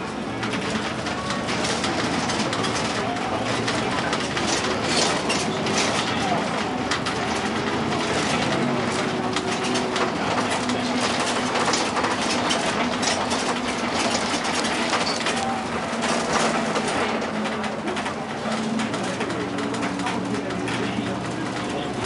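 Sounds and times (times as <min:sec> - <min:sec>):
bus engine drone: 0:00.0 - 0:22.0
cabin rattles and clicks: 0:00.4 - 0:21.6.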